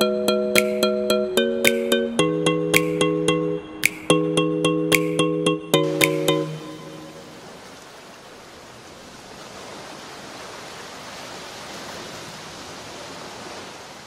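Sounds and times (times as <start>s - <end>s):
sea surf washing: 2.7s - 14.0s.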